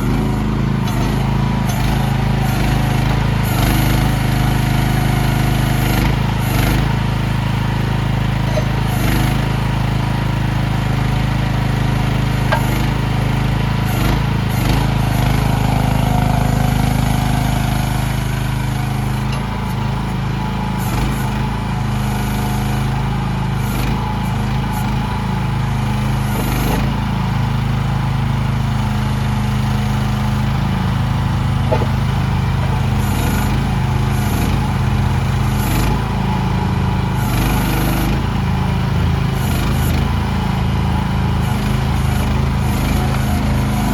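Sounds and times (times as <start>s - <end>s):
small diesel engine running: 0.0s - 43.9s.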